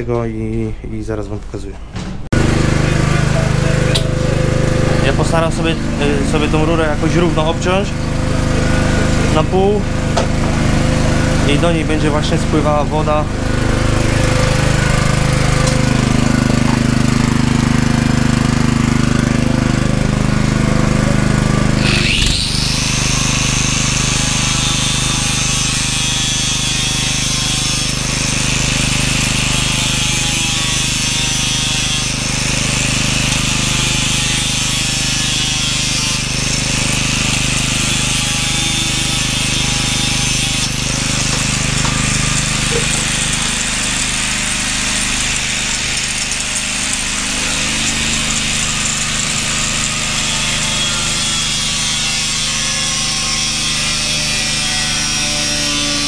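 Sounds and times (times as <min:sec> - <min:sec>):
angle grinder whining: 0:02.3 - 0:56.0.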